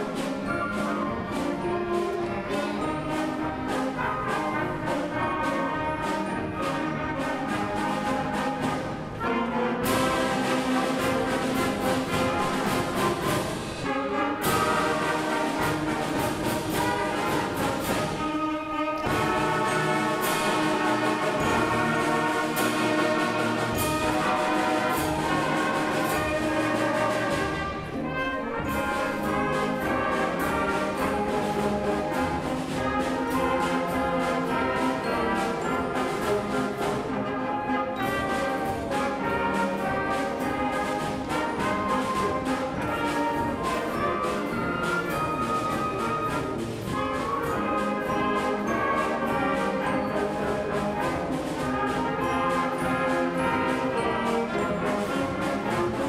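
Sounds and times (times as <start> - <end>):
concert band playing a march: 0.0 - 56.0.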